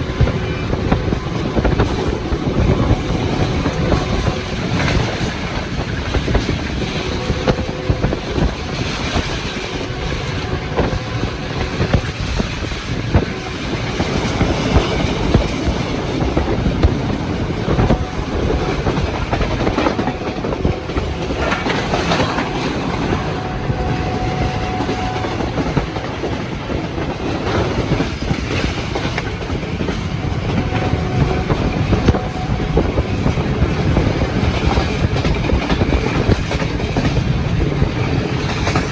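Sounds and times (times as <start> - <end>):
train rumbling on track: 0.0 - 38.9.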